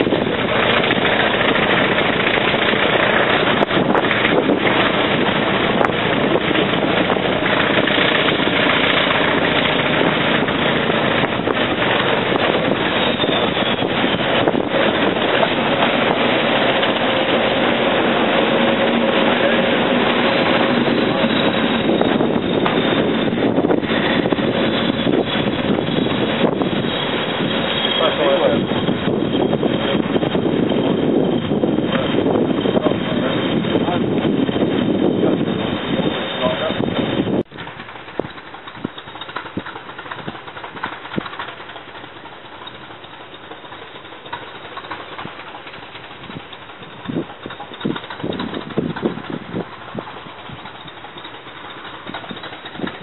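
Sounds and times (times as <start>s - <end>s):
diesel locomotive engine passing: 0.0s - 53.0s
wind buffeting microphone: 0.0s - 53.0s.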